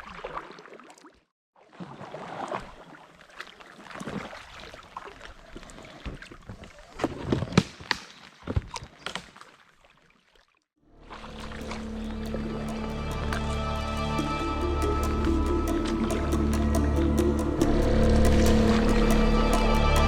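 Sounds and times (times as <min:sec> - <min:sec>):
paddle splashing in water: 0:00.0 - 0:20.0.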